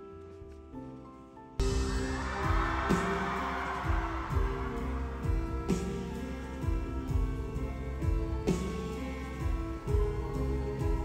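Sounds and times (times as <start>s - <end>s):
loud live concert music: 1.6s - 11.0s.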